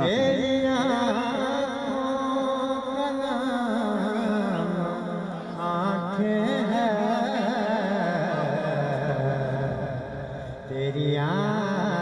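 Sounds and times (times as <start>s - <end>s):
man singing slow melody: 0.0s - 12.0s.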